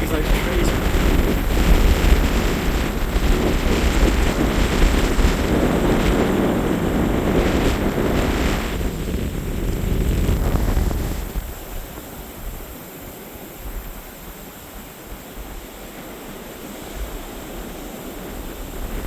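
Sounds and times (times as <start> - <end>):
sea surf: 0.0 - 19.0
wind buffeting microphone: 0.0 - 19.0.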